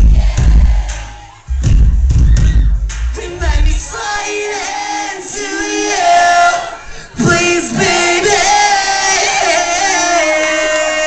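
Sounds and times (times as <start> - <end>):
crowd singing along: 0.0 - 1.5, 3.2 - 11.0.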